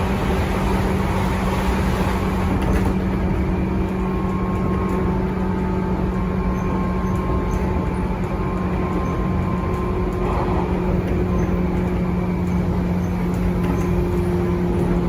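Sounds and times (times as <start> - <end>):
traction control hum: 0.0 - 15.0
wheel and rail rumble: 0.0 - 15.0.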